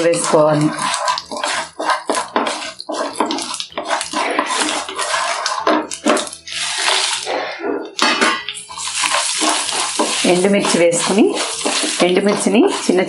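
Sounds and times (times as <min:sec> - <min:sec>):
seeds sizzling in hot oil: 0:00.0 - 0:07.4, 0:08.0 - 0:13.0
spoon scraping a pan: 0:00.0 - 0:13.0.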